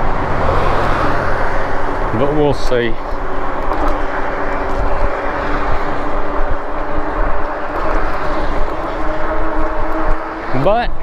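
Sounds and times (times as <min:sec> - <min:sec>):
electric motor whine: 0:00.0 - 0:11.0
tyre and road noise: 0:00.0 - 0:11.0
wind rumbling on microphone: 0:00.0 - 0:11.0.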